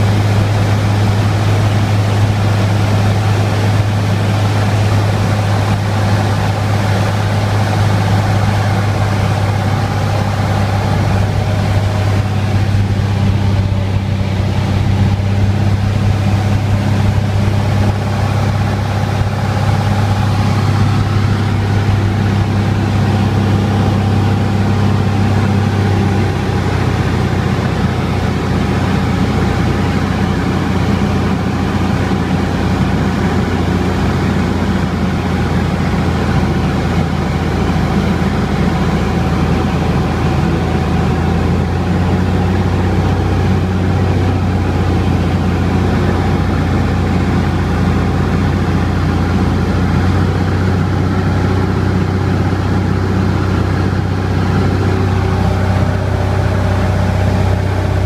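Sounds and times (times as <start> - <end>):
airflow rushing: 0.0 - 38.5, 44.7 - 58.0
aircraft engine humming: 0.0 - 58.0.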